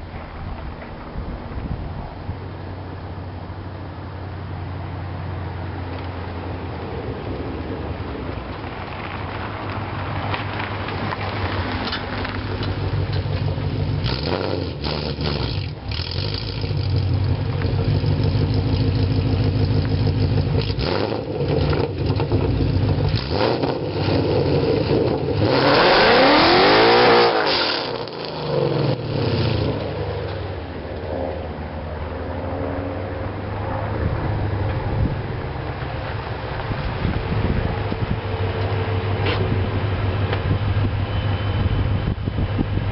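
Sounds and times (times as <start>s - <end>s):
car exhaust rumble: 0.0s - 42.9s.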